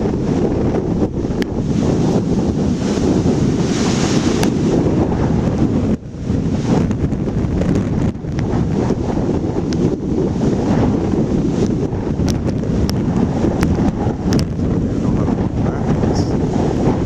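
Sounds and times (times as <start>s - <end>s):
ocean waves breaking: 0.0s - 17.0s
wind buffeting microphone: 0.0s - 17.0s.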